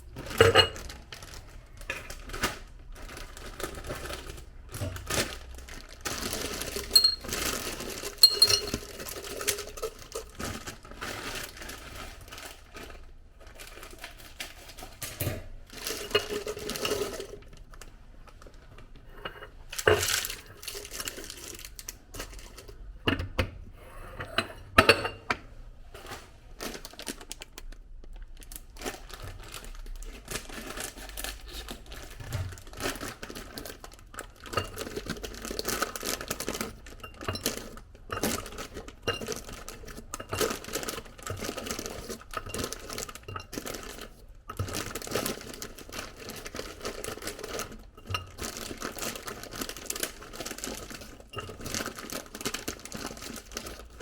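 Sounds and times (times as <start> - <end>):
containers and dishes clinking: 0.0 - 2.3, 3.0 - 17.6, 19.0 - 23.6, 30.2 - 54.0
plastic packaging crinkling: 0.0 - 18.9, 19.6 - 23.0, 25.9 - 54.0.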